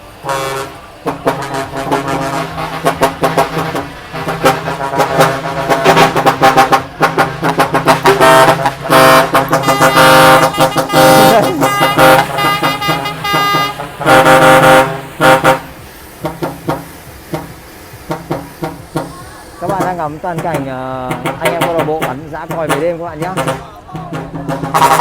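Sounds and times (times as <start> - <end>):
truck air horns blasting: 0.0 - 25.0.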